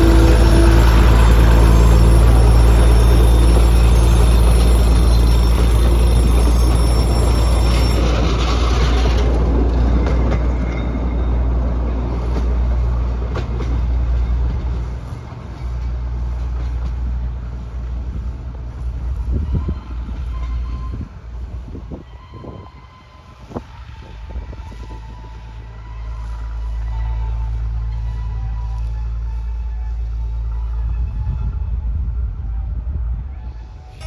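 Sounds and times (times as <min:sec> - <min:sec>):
train carriages running past: 0:00.0 - 0:34.0.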